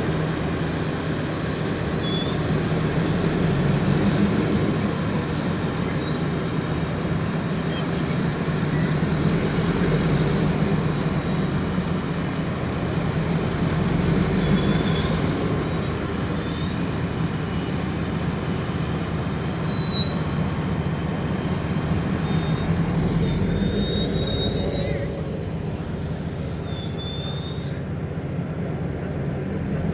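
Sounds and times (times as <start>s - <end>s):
train wheels squealing on rails: 0.0s - 28.2s.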